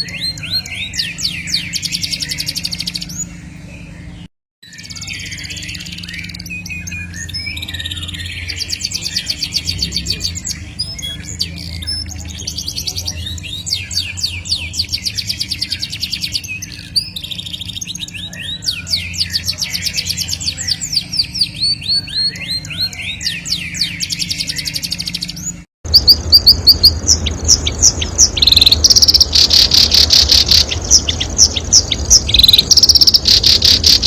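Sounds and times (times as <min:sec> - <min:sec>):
songbird trilling: 0:00.0 - 0:34.0
steady low hum: 0:00.0 - 0:34.0.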